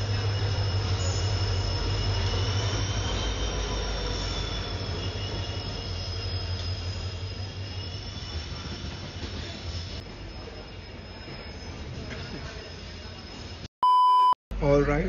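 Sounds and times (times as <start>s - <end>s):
high-pitched wheel squeal: 0.0s - 13.6s
train rolling past rumbling: 0.0s - 13.7s.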